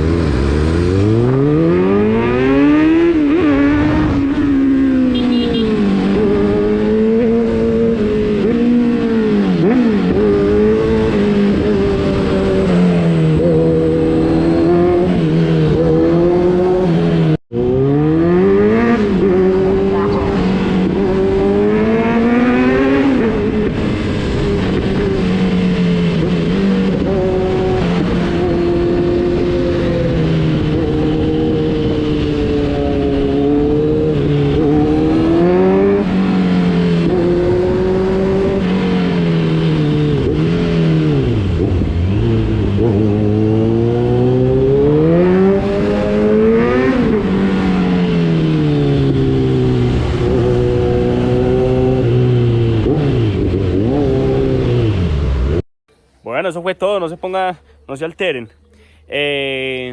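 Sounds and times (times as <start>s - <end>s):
motorcycle engine revving: 0.0s - 55.6s.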